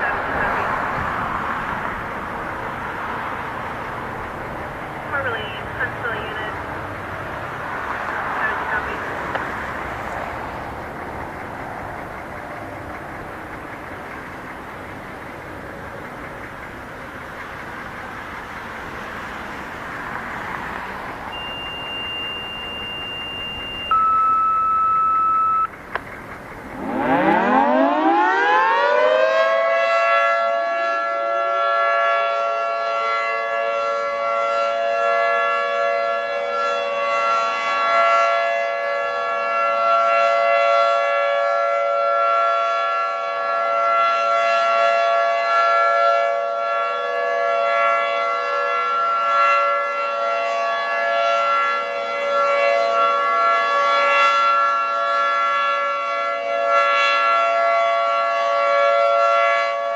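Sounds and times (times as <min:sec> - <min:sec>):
two-tone warning siren: 0:00.0 - 0:59.9.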